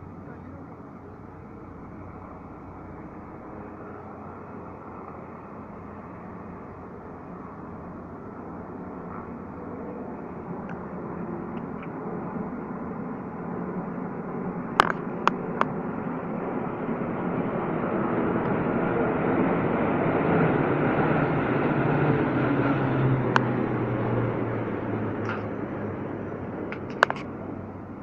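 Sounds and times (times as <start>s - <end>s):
aircraft engine noise: 0.0s - 28.0s.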